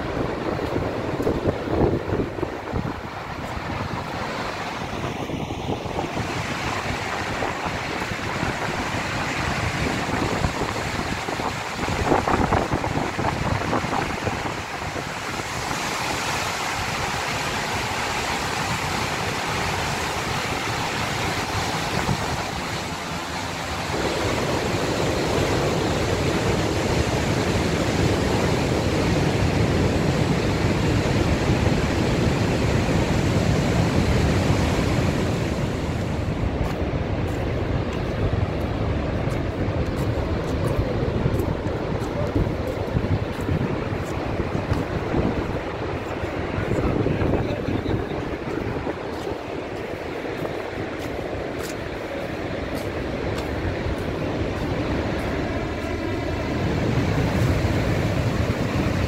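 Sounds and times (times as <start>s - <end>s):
waterfall rushing: 0.0s - 59.0s
wind buffeting microphone: 0.0s - 59.0s.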